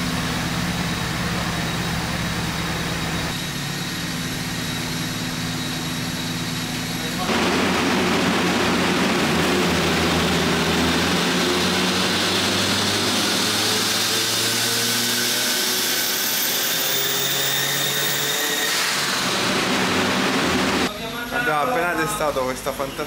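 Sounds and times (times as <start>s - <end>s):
car engine revving on a dyno: 0.0s - 20.9s.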